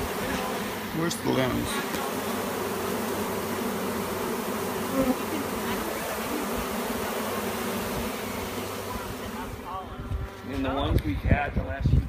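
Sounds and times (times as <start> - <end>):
swarm of honey bees buzzing: 0.0 - 10.9.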